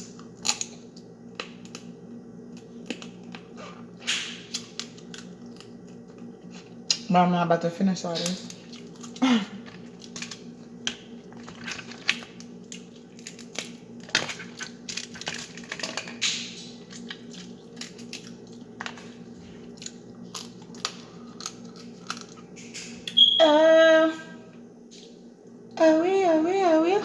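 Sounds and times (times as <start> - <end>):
chewing crab legs: 0.0 - 7.1, 8.3 - 23.2
steady low hum: 0.0 - 27.0.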